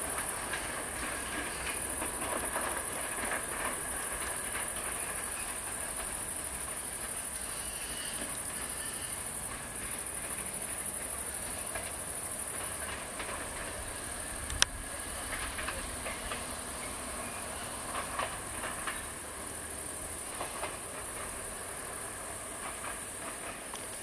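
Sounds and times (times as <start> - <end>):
distant train rumble: 0.0 - 24.0
rail clicks: 0.0 - 24.0
steady high hiss: 0.0 - 24.0.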